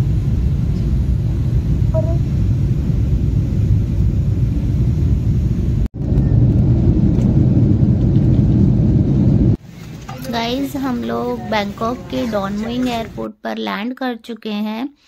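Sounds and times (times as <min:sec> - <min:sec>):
jet engines and wheels rumbling: 0:00.0 - 0:13.2.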